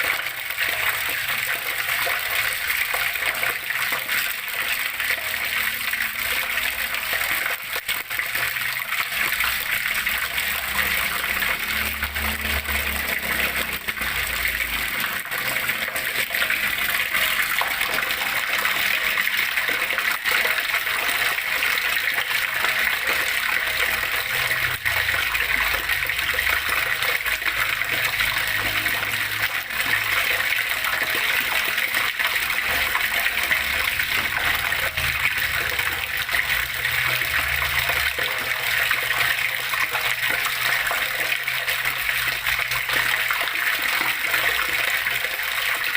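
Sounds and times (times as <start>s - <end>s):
water flowing and splashing: 0.0s - 45.9s.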